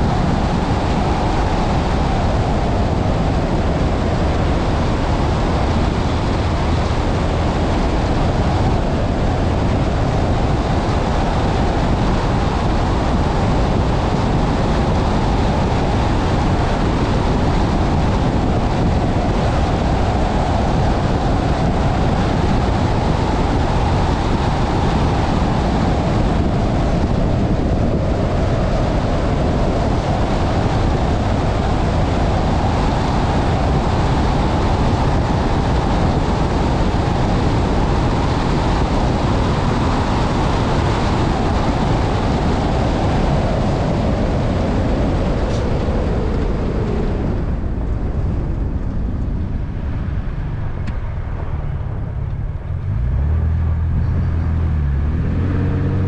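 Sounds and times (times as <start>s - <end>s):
car engine: 0.0s - 56.0s.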